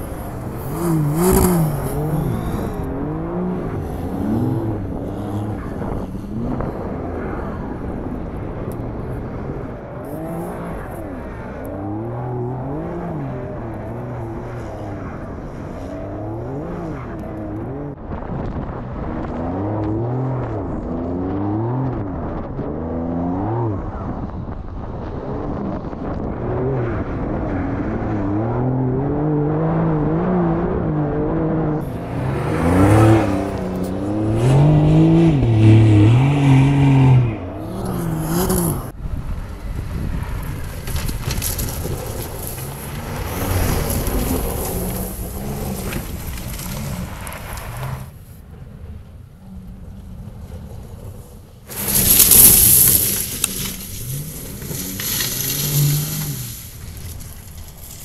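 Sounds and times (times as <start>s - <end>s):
car engine revving: 0.0s - 39.0s, 40.4s - 48.2s, 49.4s - 58.0s.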